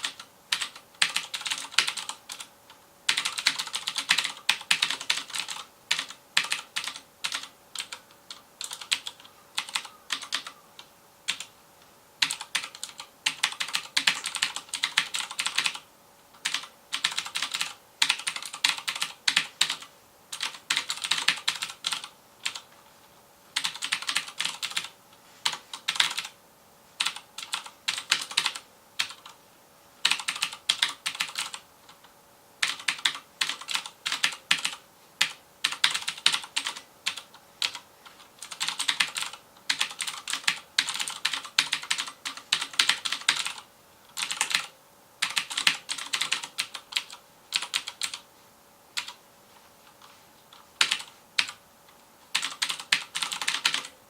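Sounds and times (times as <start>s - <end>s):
fast typing on clicky keyboard: 0.0s - 2.5s, 3.1s - 10.6s, 11.3s - 11.5s, 12.2s - 22.7s, 23.6s - 26.4s, 27.0s - 29.4s, 30.0s - 32.0s, 32.6s - 48.2s, 49.0s - 49.2s, 50.8s - 51.6s, 52.3s - 54.0s.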